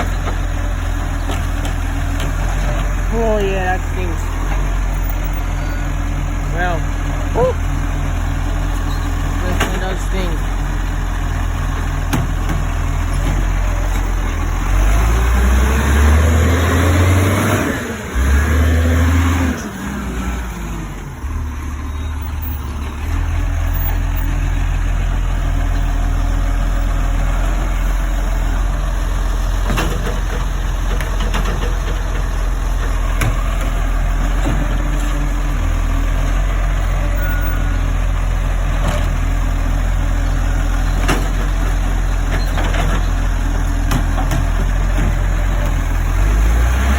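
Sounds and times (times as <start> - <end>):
truck diesel engine revving: 0.0 - 46.9.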